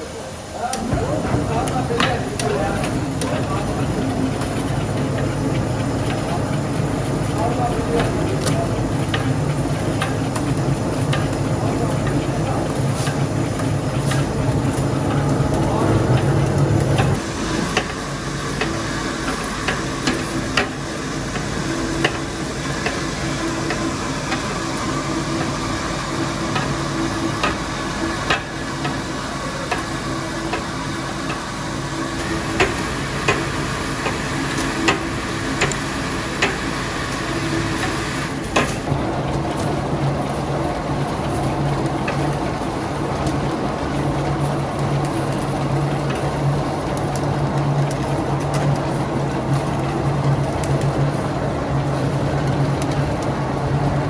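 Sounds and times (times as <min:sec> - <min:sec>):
factory machinery humming: 0:00.0 - 0:54.0.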